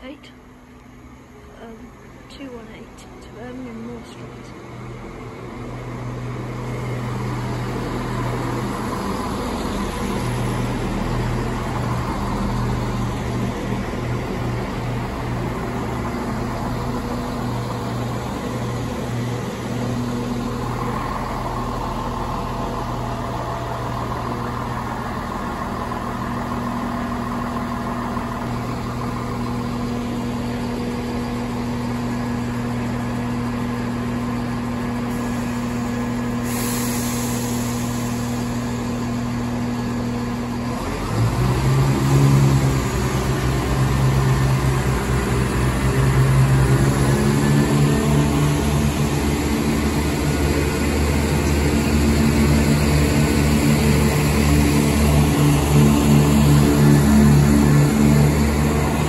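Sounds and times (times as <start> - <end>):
diesel train moving past: 0.0 - 59.0.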